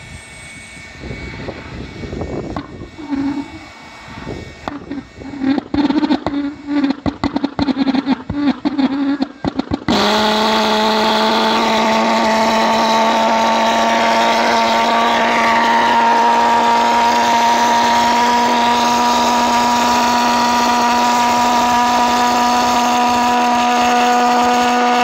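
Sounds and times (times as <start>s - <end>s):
pulsed jet engine buzzing drone: 0.0s - 25.0s.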